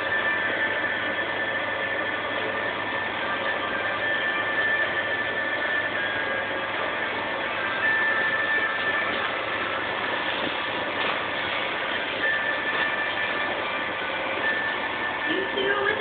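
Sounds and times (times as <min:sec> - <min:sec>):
whining tones: 0:00.0 - 0:16.0.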